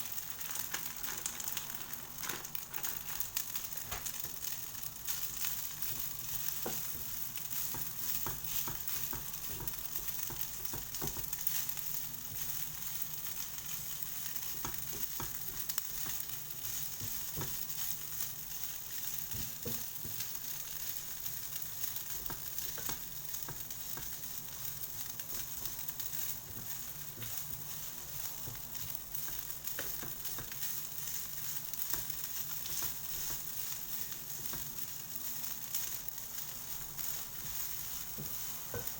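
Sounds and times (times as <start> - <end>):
rice sizzling in a pan: 0.0 - 38.9
stirring clicks and scrapes: 0.0 - 38.9.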